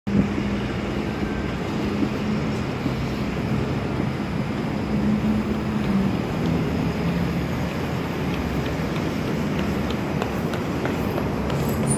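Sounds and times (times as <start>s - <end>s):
streetcar electric hum: 0.1s - 11.9s
streetcar rolling noise: 0.1s - 11.9s.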